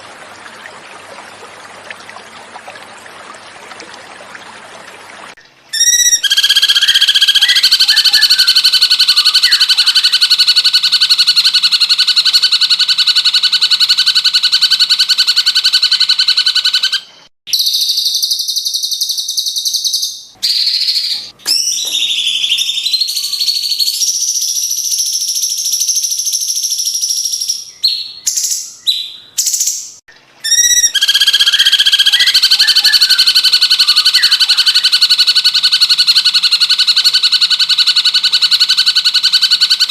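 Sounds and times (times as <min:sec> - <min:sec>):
bird chirps and calls: 0:05.7 - 0:13.2, 0:14.0 - 0:39.9.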